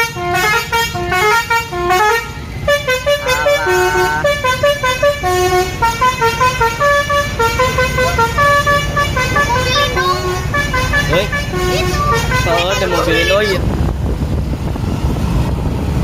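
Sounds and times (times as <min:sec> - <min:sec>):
bus musical horn melody: 0:00.0 - 0:13.6.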